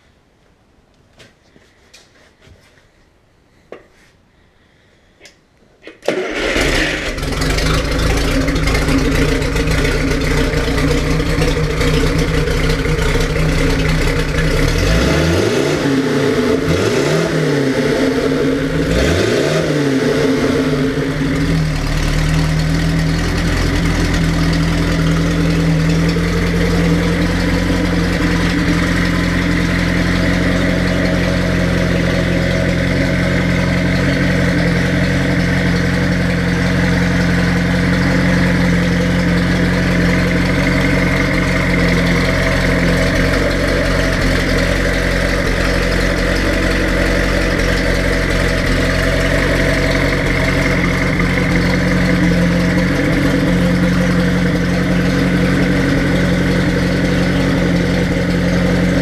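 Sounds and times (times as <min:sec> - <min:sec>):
car engine starting and idling: 0:05.8 - 0:59.0.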